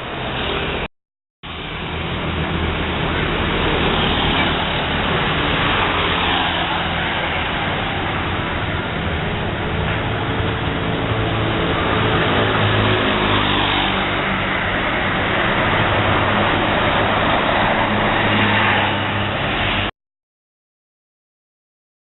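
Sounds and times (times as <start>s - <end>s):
buses driving past: 0.0s - 0.9s, 1.5s - 19.9s.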